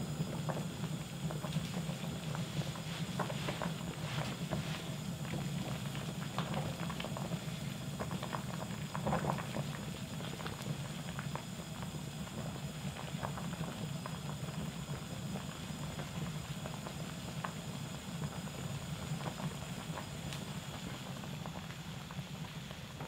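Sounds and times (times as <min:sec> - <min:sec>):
soup bubbling at a boil: 0:00.0 - 0:23.0.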